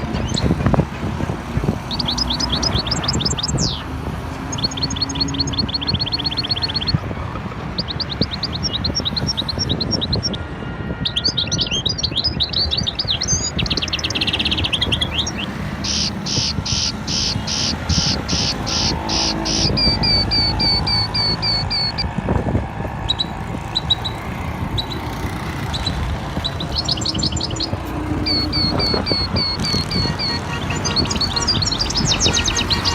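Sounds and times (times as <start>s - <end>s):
songbirds singing and chirping: 0.0s - 32.9s.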